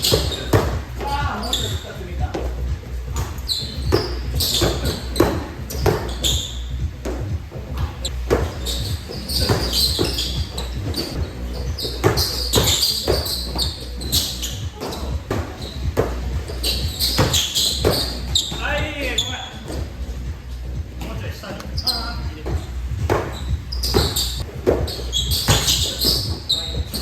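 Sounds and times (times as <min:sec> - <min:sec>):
basketball bouncing in a gym: 0:00.0 - 0:19.9, 0:21.7 - 0:27.0
shoe squeaks: 0:00.0 - 0:20.2, 0:20.9 - 0:27.0.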